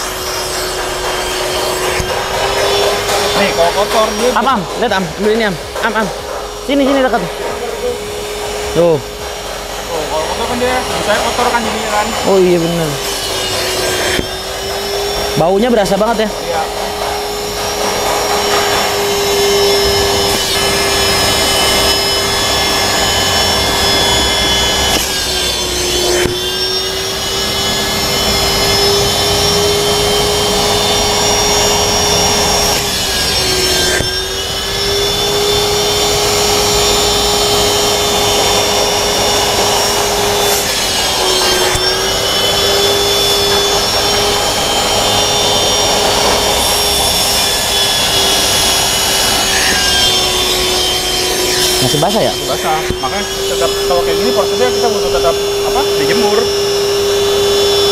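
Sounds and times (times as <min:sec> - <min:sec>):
vacuum cleaner motor whine: 0:00.0 - 0:57.9.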